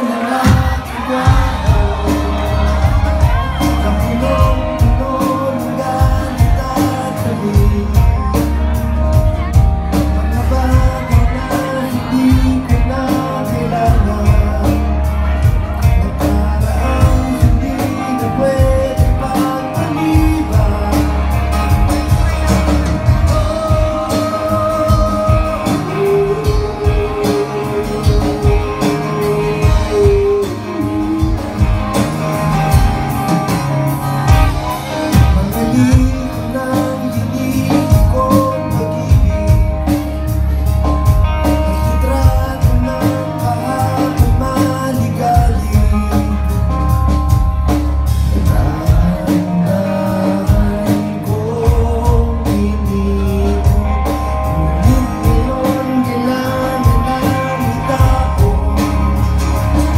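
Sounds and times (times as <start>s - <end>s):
acoustic guitar: 0.0s - 59.9s
bass guitar: 0.0s - 59.9s
drum kit beat: 0.0s - 59.9s
electric guitar: 0.0s - 59.9s
male lead vocal: 0.0s - 59.9s.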